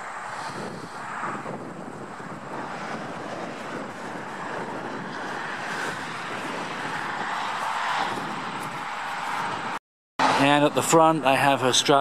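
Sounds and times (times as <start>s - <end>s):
wind on microphone: 0.0s - 10.4s
road traffic going by: 0.0s - 12.0s.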